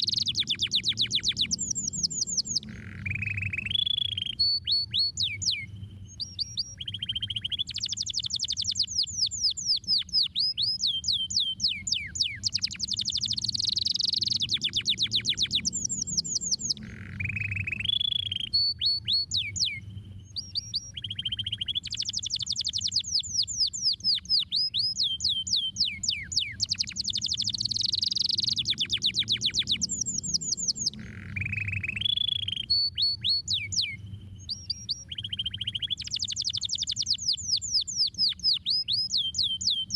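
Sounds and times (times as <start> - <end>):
canary singing: 0.0 - 39.9
low steady hum: 0.0 - 39.9.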